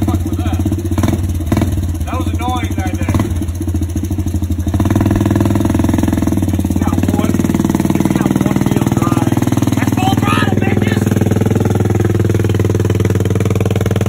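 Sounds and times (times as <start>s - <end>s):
quad engine running: 0.0s - 14.0s.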